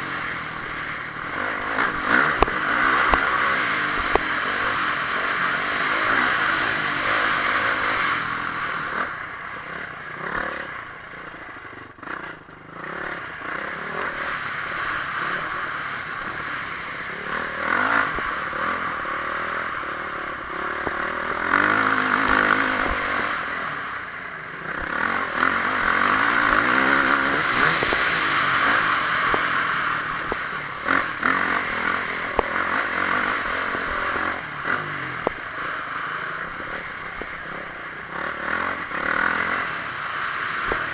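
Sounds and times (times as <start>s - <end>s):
motocross engine revving: 0.0s - 40.9s.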